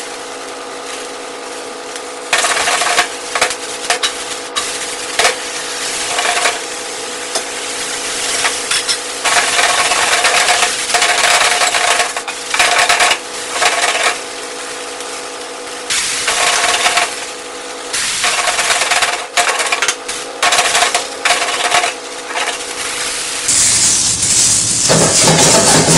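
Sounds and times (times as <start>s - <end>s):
frying sizzle: 0.0s - 25.9s
vegetables scraping in a wok: 0.8s - 15.2s, 15.9s - 17.3s, 18.0s - 25.9s.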